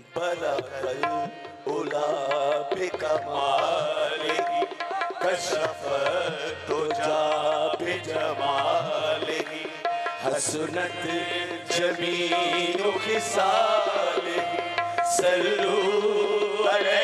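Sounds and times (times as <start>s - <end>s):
harmonium melody: 0.0s - 17.0s
person singing: 0.0s - 17.0s
tabla strokes: 0.2s - 17.0s.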